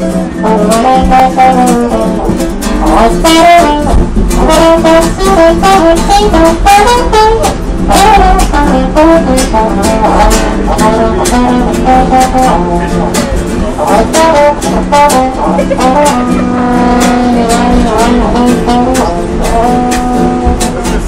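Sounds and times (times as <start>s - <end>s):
acoustic guitar strumming: 0.0s - 21.0s
trumpet melody: 0.0s - 21.0s.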